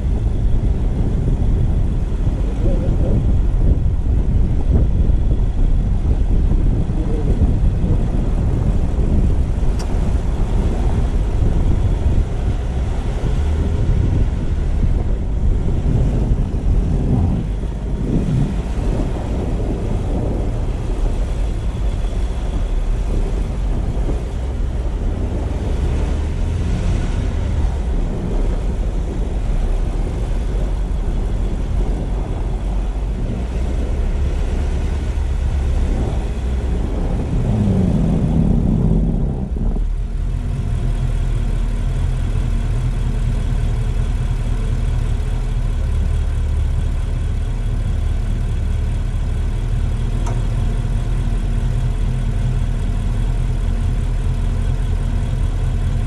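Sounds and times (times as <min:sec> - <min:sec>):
car engine and tyre noise: 0:00.0 - 0:56.0.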